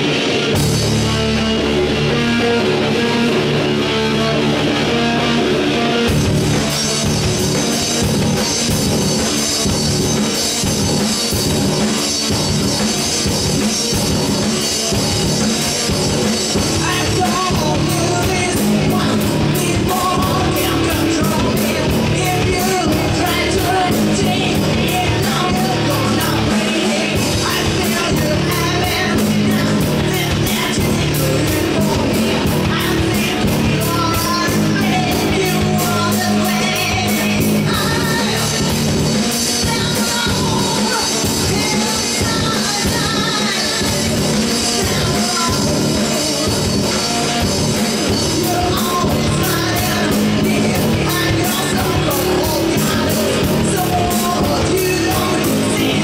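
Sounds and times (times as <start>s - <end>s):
drum kit fast beat: 0.0s - 56.0s
guitar and bass chords: 0.0s - 56.0s.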